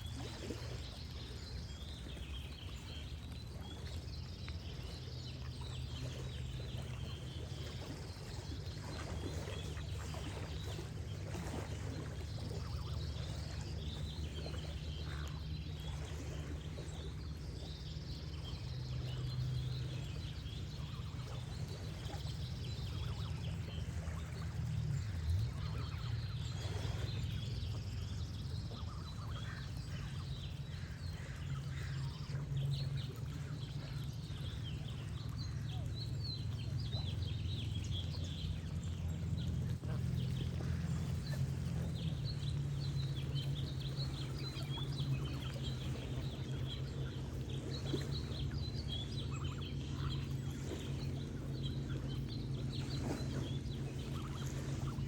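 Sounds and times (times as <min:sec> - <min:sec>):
songbirds chirping: 0:00.0 - 0:55.0
water trickling: 0:00.0 - 0:55.0.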